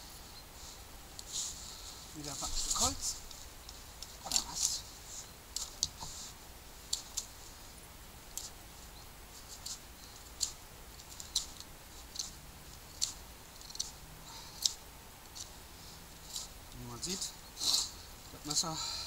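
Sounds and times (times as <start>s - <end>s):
knife shaving wooden stick: 0.6s - 18.6s.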